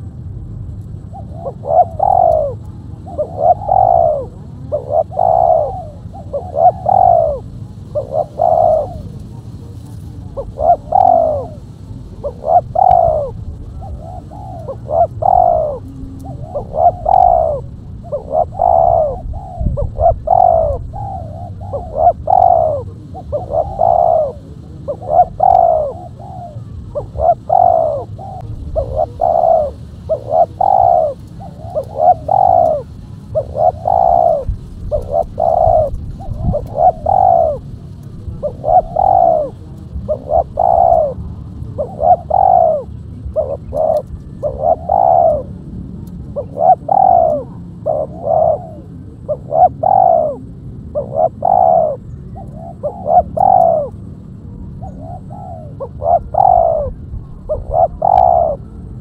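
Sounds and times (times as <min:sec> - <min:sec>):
dove cooing: 0:01.0 - 0:59.0.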